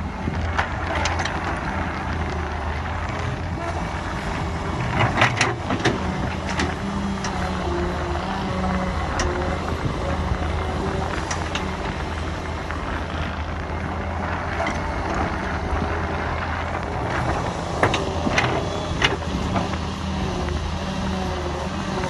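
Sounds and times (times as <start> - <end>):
excavator running: 0.0 - 22.0.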